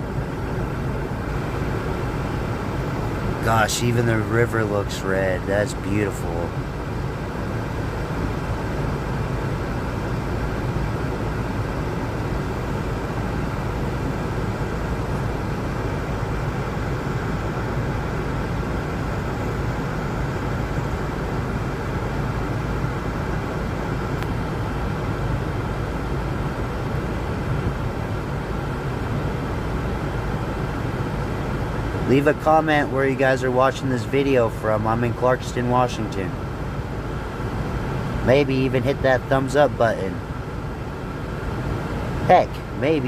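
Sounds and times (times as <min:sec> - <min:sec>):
low rumble with hiss: 0:00.0 - 0:43.0.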